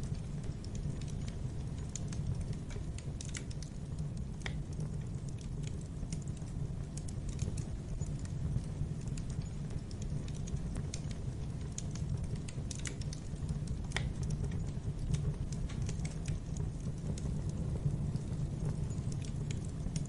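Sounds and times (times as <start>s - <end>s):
steady low rumble: 0.0s - 20.0s
wood fire crackling: 0.0s - 20.0s.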